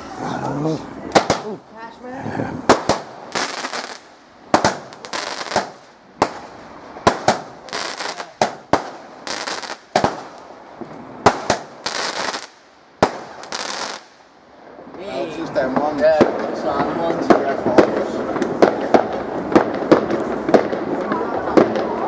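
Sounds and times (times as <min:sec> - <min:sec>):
crackling hiss: 0:00.0 - 0:22.0
fireworks banging: 0:00.8 - 0:22.0.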